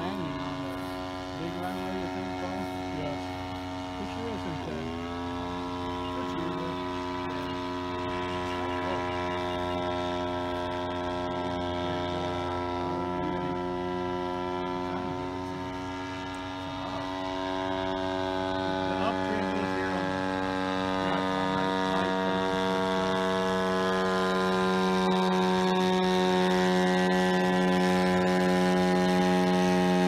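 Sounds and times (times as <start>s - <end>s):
model plane motor drone overhead: 0.0s - 30.0s.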